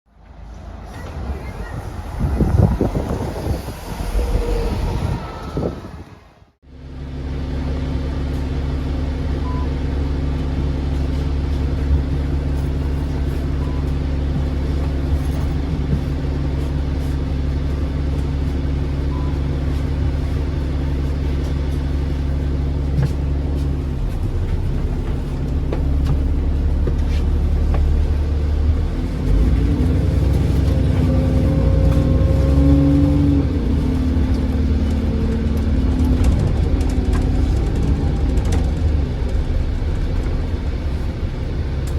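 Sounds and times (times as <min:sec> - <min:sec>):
diesel bus engine accelerating: 0:00.1 - 0:41.9.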